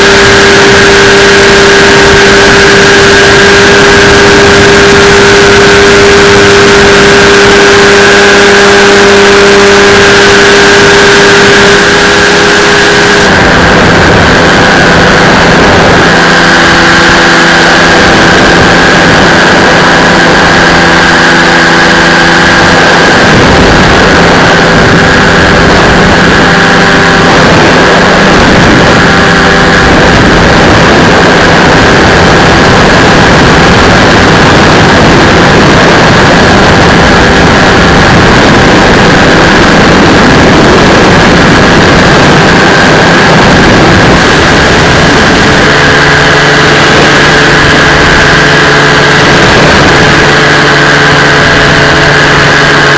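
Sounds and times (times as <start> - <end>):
engine and propeller running: 0.0 - 52.9
wind rumble on microphone: 0.0 - 52.9.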